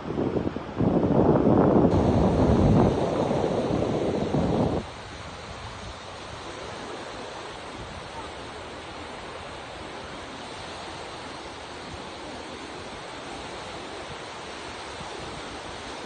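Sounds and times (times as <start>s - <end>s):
sea waves washing onto shore: 1.9s - 16.0s.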